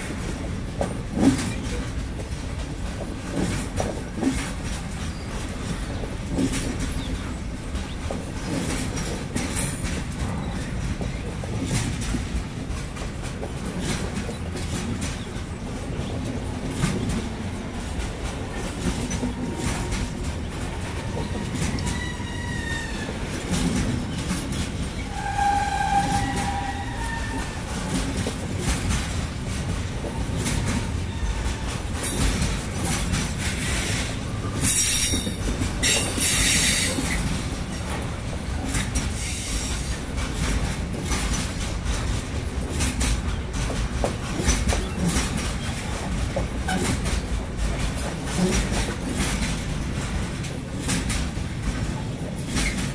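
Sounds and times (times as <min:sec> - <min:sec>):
wheels clacking over rail joints: 0:00.0 - 0:52.9.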